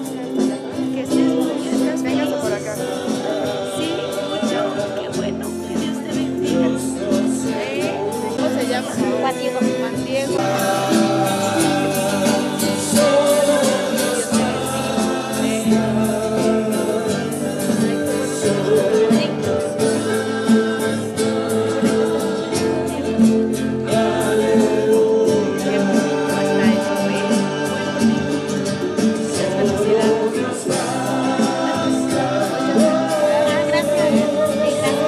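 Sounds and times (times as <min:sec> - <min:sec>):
group singing religious song: 0:00.0 - 0:35.0
guitar accompaniment: 0:00.0 - 0:35.0.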